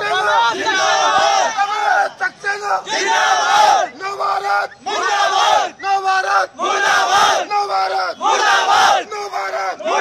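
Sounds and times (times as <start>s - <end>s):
crowd of men chanting slogans: 0.0s - 10.0s.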